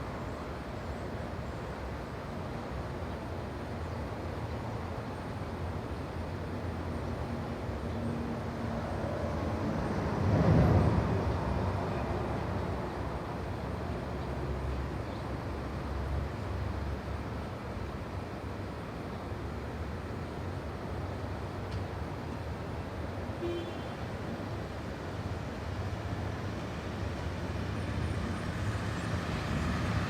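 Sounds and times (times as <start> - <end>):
distant traffic rumble: 0.0 - 30.0.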